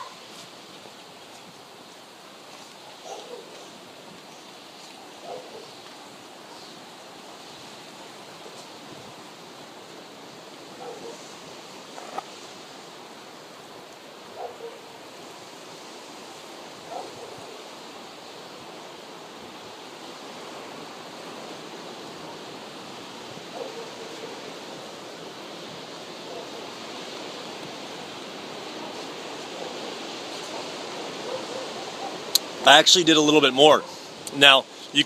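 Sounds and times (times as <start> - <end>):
ocean surf: 0.0 - 35.0
wind: 0.0 - 35.0.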